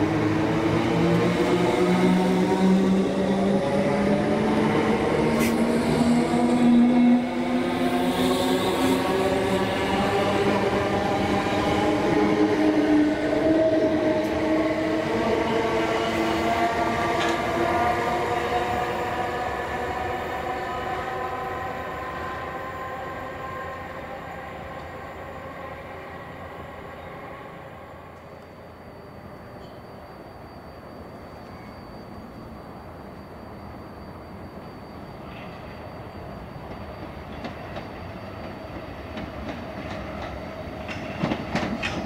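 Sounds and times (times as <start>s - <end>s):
train whine accelerating: 0.0s - 42.0s.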